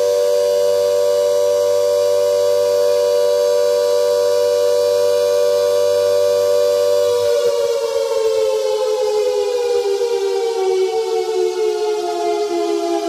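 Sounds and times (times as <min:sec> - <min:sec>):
air raid siren steady wail: 0:00.0 - 0:13.0.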